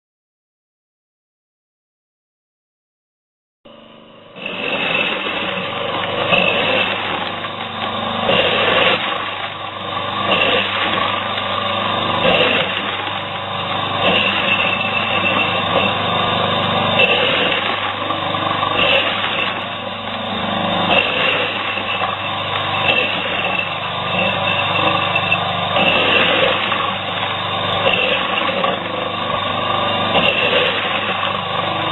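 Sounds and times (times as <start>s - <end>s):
corn sheller machine running: 3.7s - 31.9s.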